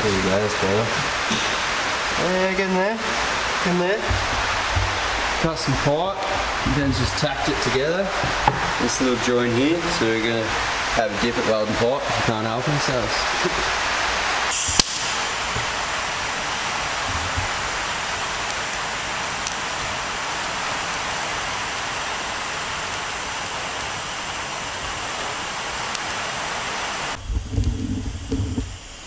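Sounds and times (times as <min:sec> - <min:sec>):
welding arc hissing: 0:00.0 - 0:29.0.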